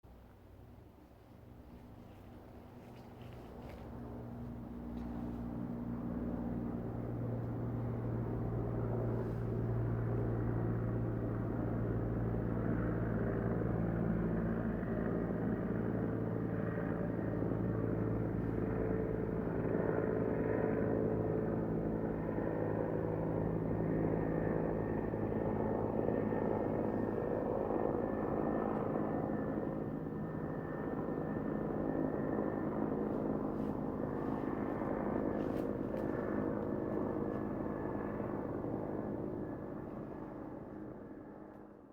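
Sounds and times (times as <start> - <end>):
helicopter engine and rotor drone: 0.1 - 41.9.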